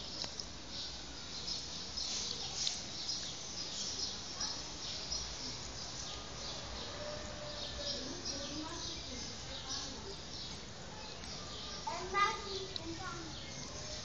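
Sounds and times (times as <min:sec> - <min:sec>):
birds chirping: 0:00.0 - 0:14.0
steady outdoor hiss: 0:00.0 - 0:14.0.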